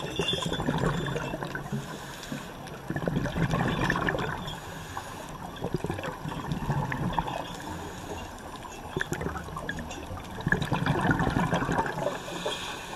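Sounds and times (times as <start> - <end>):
small underwater crackles: 0.0 - 12.9
underwater bubbling and gurgling: 0.0 - 12.9.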